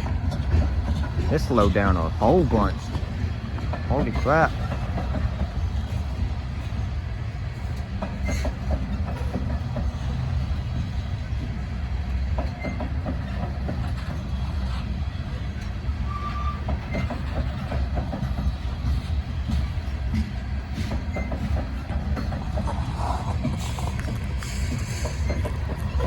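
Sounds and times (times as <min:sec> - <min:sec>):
freight train rumbling past: 0:00.0 - 0:26.0
train squeaks: 0:00.0 - 0:26.0
wheels clacking over rail joints: 0:00.0 - 0:26.0.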